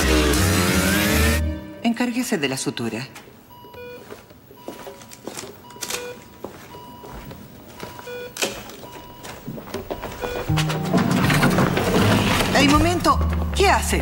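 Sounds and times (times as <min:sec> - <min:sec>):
patient monitor beeping: 0:02.5 - 0:14.0.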